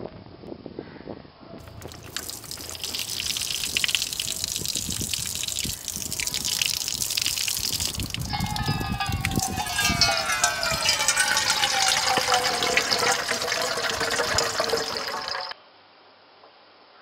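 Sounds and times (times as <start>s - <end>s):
water gushing from tap: 1.6s - 15.6s
water ringing into metal pot: 1.6s - 15.6s.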